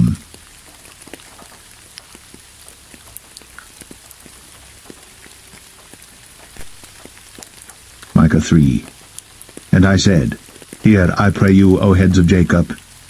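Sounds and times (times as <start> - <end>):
rain drops pattering: 0.0 - 13.0.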